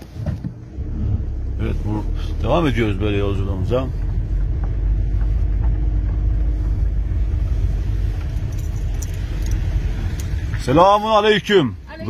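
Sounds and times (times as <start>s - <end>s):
car engine and tyres on gravel: 0.0s - 12.0s.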